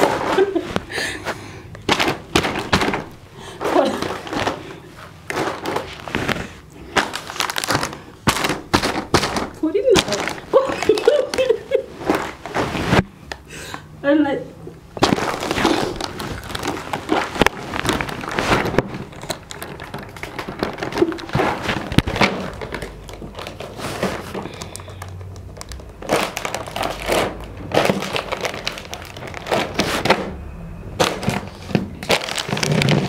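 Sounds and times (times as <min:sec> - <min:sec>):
plastic snack packets crinkling: 0:00.0 - 0:12.6, 0:14.9 - 0:30.4, 0:31.0 - 0:33.0.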